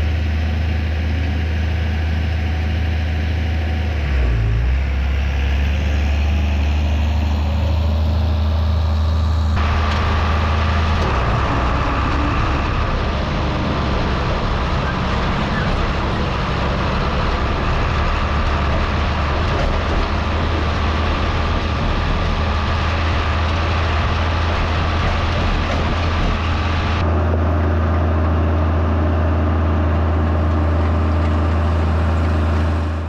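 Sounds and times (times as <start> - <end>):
tractor engine droning: 0.0 - 33.0.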